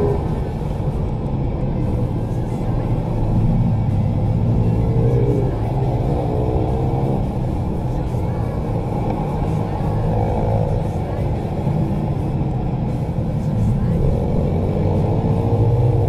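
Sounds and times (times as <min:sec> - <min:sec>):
dirt bike engine rumbling: 0:00.0 - 0:15.9.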